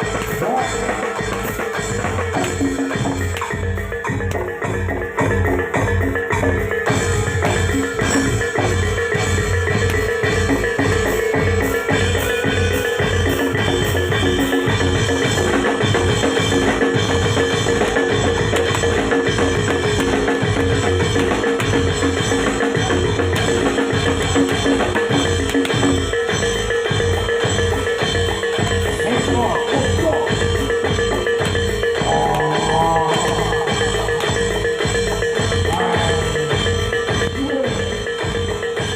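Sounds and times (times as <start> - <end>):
drums beating driving rhythm: 0.0 - 38.9
metal mallet instruments: 0.0 - 38.9.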